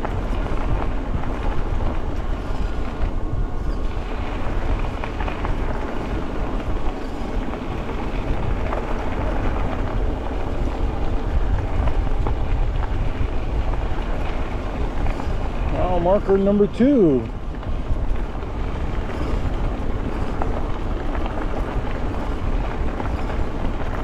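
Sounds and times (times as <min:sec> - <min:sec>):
bike rolling on trail: 0:00.0 - 0:24.0
wind rumbling on microphone: 0:00.0 - 0:24.0.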